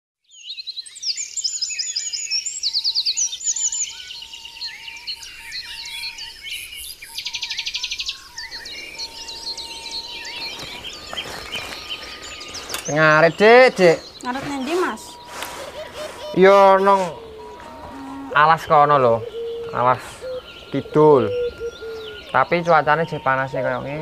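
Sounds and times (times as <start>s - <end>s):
small birds chirping: 0.2s - 24.0s
fast bird trills: 1.3s - 24.0s.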